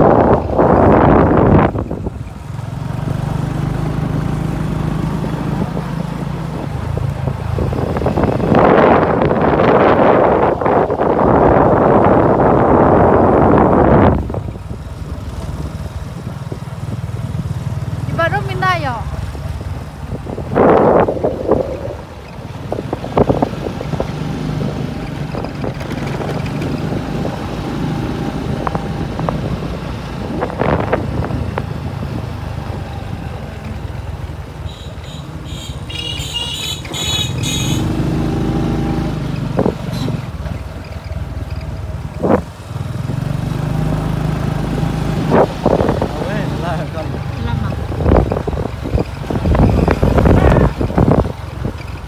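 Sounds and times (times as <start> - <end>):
motorcycle engine running: 0.0 - 52.0
road rumble: 0.0 - 52.0.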